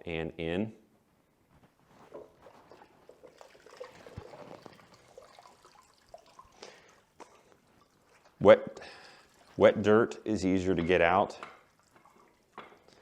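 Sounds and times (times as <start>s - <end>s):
water trickling and dripping: 2.1s - 13.0s.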